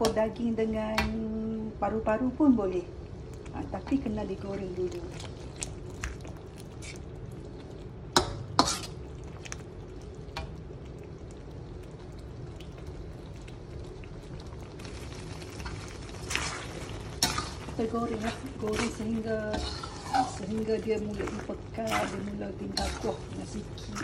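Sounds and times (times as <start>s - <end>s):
sauce bubbling in pan: 2.9s - 24.0s.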